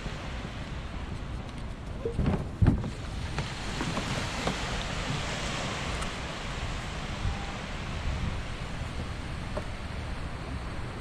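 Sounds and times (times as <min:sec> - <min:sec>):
shallow seawater at shoreline: 0:00.0 - 0:11.0
wind on microphone: 0:00.0 - 0:11.0.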